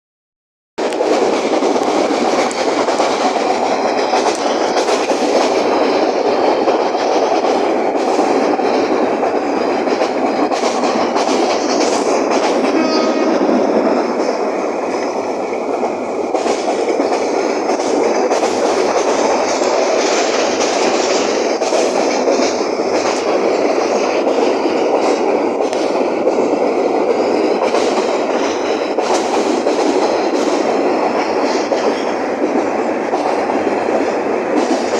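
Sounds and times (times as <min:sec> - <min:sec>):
train wheels clattering on rails: 0:00.8 - 0:34.9.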